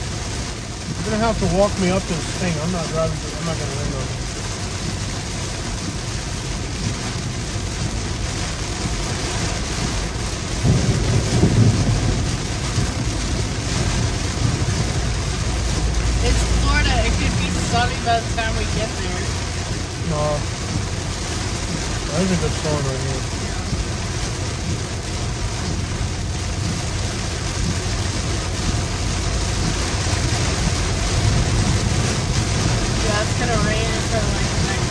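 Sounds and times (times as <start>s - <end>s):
heavy rain on a car: 0.0s - 34.9s
tyres on wet road: 0.0s - 34.9s
thunder rumble: 5.6s - 34.9s.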